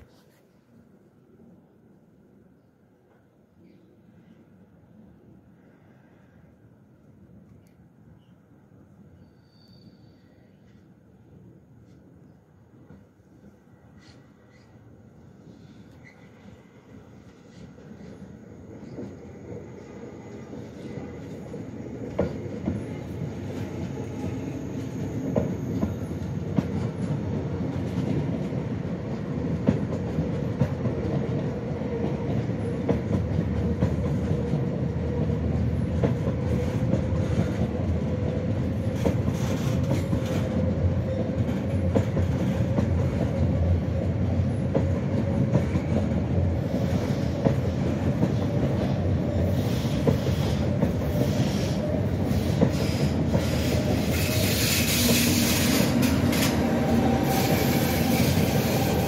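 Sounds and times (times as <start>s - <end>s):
train rumbling past: 8.2s - 59.0s.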